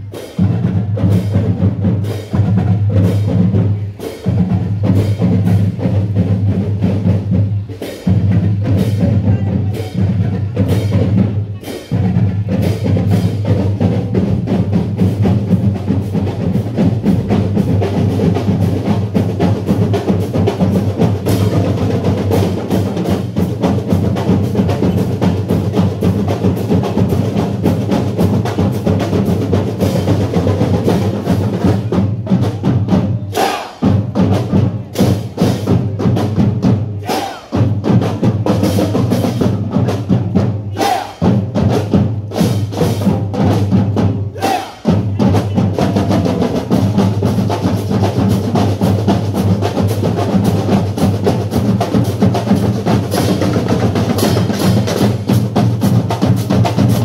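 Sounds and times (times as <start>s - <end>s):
snare and bass drums cadence: 0.0s - 57.0s.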